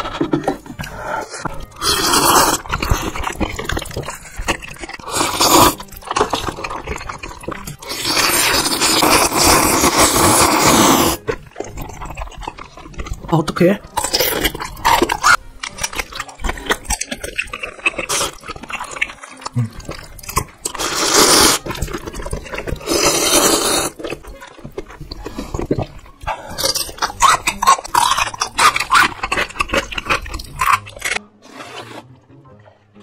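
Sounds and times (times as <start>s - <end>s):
wet chewing: 0.0s - 31.2s
noodle slurps: 0.8s - 13.2s, 14.0s - 32.0s.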